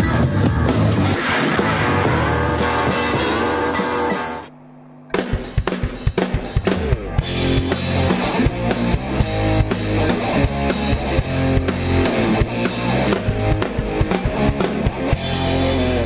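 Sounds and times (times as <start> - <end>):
bass: 0.0 - 16.0
drum kit beat: 0.0 - 16.0
rock backing music: 0.0 - 16.0.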